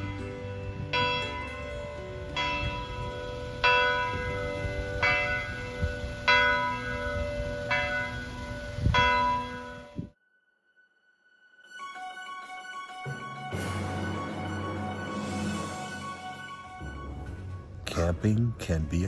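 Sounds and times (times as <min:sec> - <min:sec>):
church bells ringing: 0:00.0 - 0:10.2, 0:12.8 - 0:19.0.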